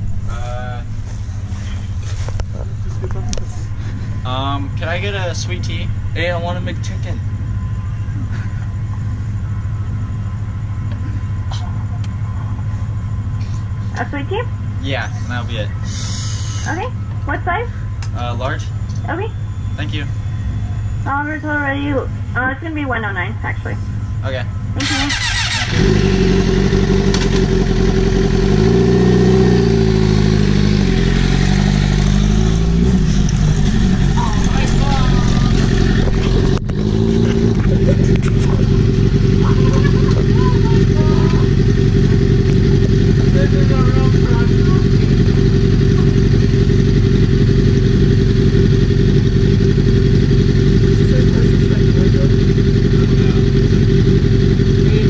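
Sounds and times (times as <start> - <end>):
motorcycle engine revving: 1.4 - 17.0, 24.8 - 55.0.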